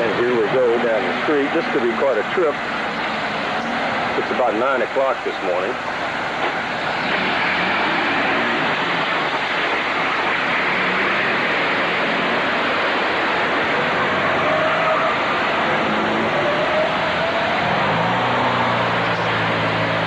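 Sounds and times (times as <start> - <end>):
tyres on wet road: 0.0 - 20.0.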